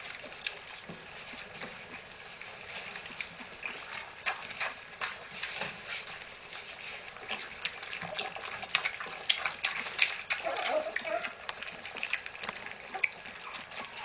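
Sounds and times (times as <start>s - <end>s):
puppies lapping from a plastic bowl: 0.0s - 14.0s.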